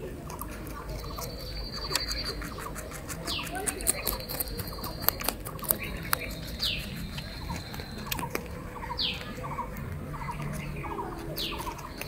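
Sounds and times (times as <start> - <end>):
rabbits munching: 0.0 - 12.0
bird chirping: 0.3 - 12.0.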